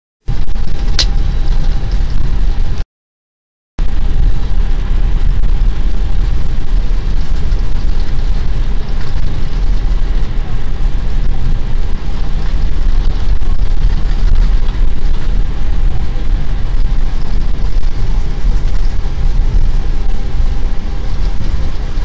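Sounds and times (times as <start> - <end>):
cockpit air and engine rumble: 0.2 - 2.8, 3.8 - 22.0.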